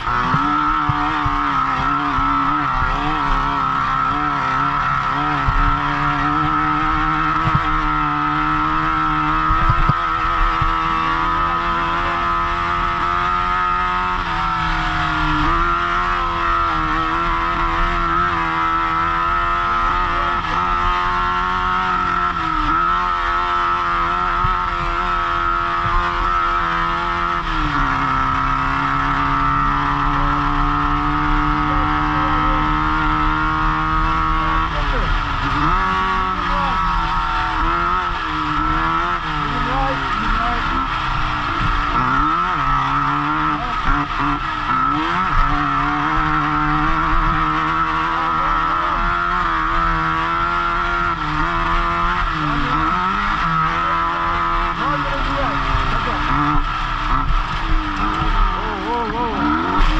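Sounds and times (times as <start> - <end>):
race vehicle engine under load: 0.0 - 59.9.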